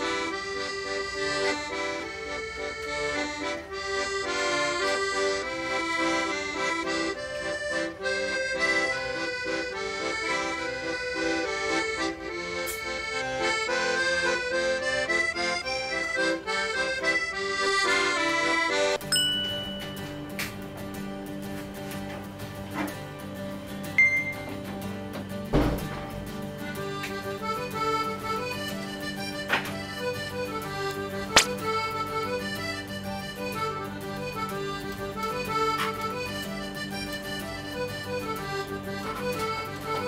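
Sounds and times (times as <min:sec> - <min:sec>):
instrumental music: 0:00.0 - 0:40.0.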